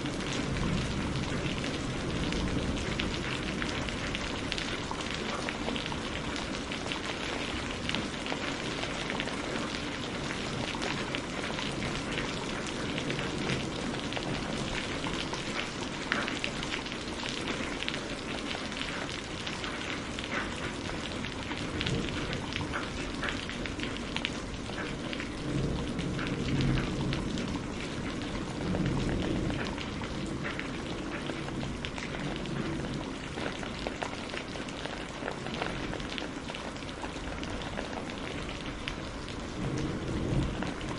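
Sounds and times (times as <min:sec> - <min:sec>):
thunder rumbling: 0:00.0 - 0:19.6, 0:20.4 - 0:40.9
heavy rain: 0:00.0 - 0:40.9.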